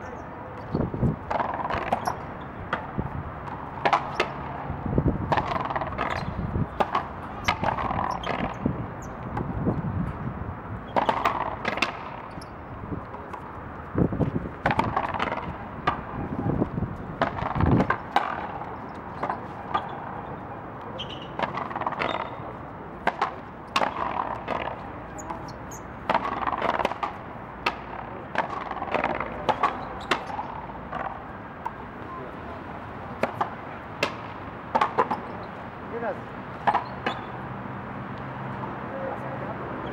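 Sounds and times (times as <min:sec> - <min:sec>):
racquets striking ball: 0:00.5 - 0:37.6.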